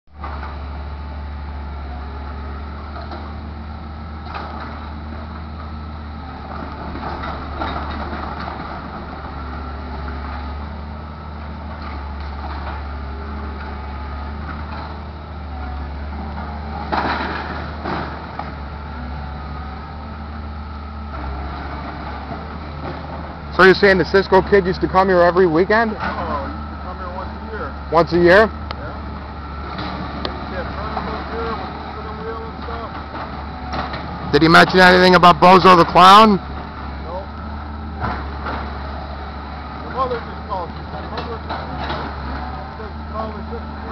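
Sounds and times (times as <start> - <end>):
excavator engine drone: 0.1 - 43.9.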